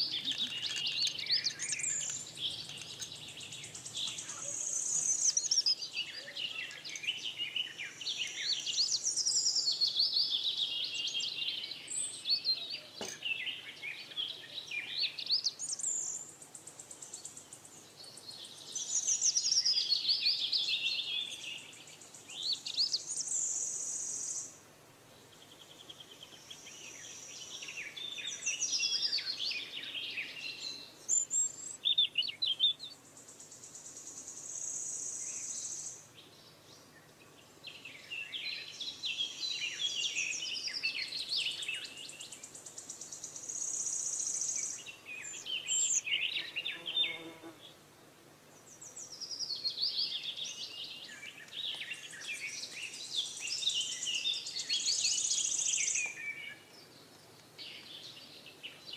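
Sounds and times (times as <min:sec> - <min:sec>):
birds chirping and twittering: 0:00.0 - 0:58.9
steady high hiss: 0:00.0 - 0:58.9.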